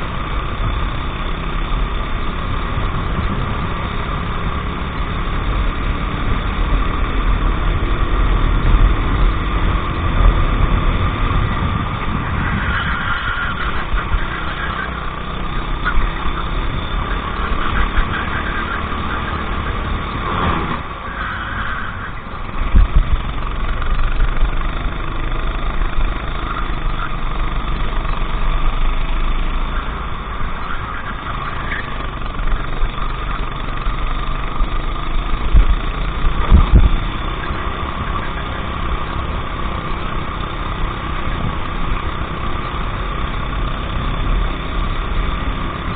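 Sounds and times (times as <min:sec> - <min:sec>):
go-kart engine running: 0:00.0 - 0:45.9.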